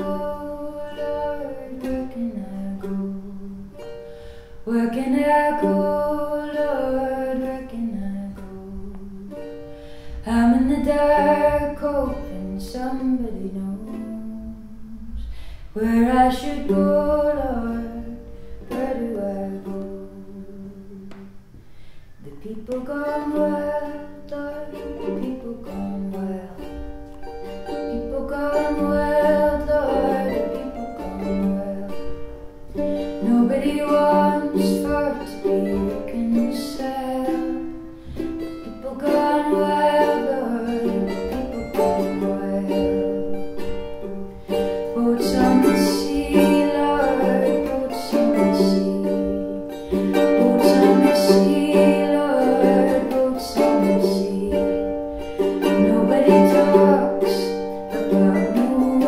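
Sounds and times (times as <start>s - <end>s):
woman singing: 0.0s - 4.0s, 4.6s - 21.4s, 22.2s - 59.0s
mandolin playing folk song: 0.0s - 59.0s.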